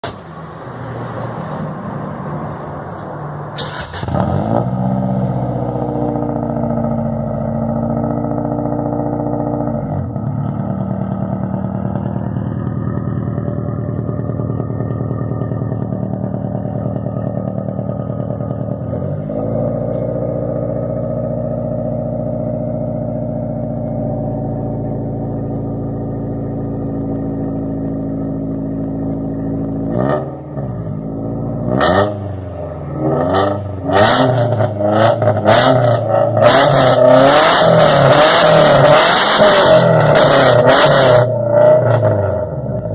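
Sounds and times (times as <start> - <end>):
car engine running through exhaust: 0.0 - 42.9.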